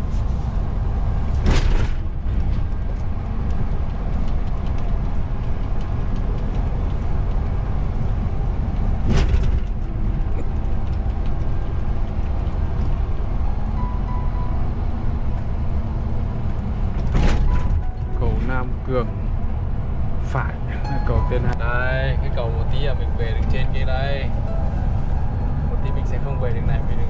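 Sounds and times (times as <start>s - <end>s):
vehicle driving rumble: 0.0s - 27.0s.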